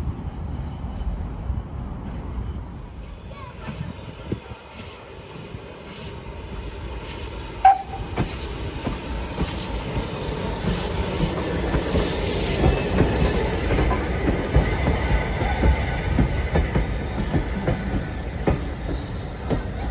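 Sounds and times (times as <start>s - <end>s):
train rumble: 0.0s - 19.9s.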